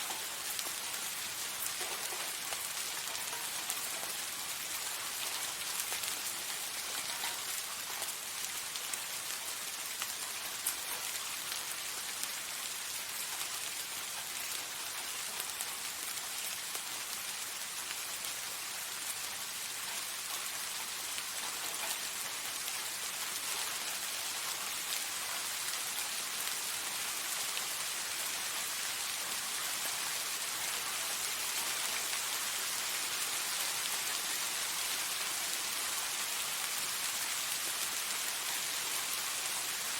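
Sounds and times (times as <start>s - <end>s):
soft rain pattering: 0.0s - 39.9s.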